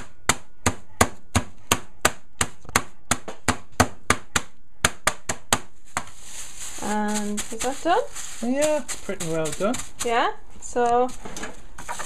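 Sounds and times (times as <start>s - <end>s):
rolling pin smacking biscuits: 0.0s - 10.4s.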